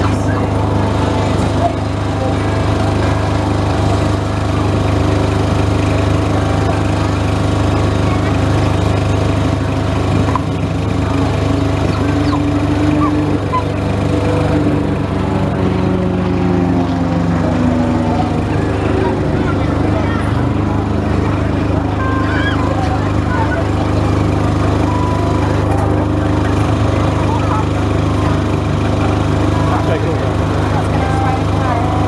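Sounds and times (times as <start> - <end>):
propeller plane engine: 0.0 - 32.0.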